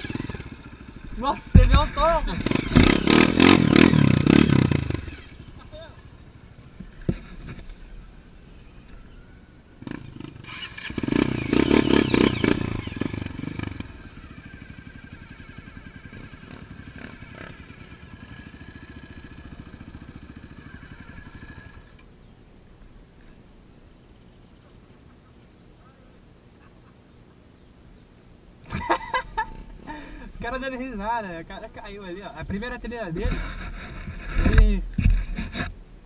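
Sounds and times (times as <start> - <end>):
dirt bike engine idling and revving: 0.0 - 22.9, 28.6 - 36.0.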